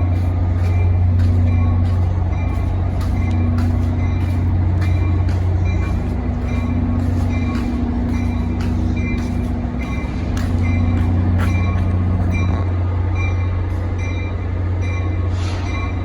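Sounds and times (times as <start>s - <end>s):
locomotive bell ringing: 0.0s - 16.0s
locomotive engine humming: 0.0s - 16.0s.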